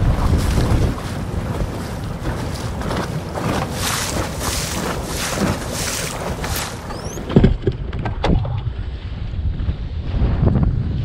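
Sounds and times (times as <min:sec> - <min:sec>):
waves splashing against boat: 0:00.0 - 0:09.0
wind buffeting microphone: 0:00.0 - 0:11.0.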